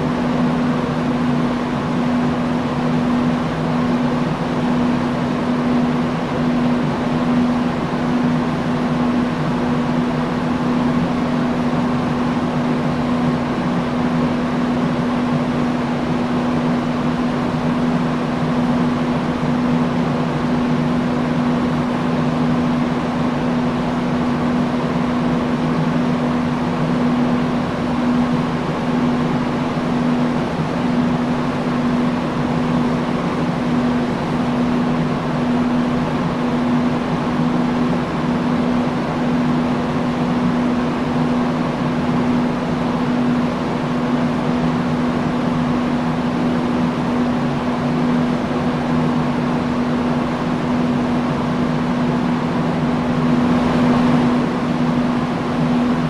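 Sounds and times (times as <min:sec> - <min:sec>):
industrial fan air rushing: 0:00.0 - 0:56.0
low motor hum: 0:00.0 - 0:56.0.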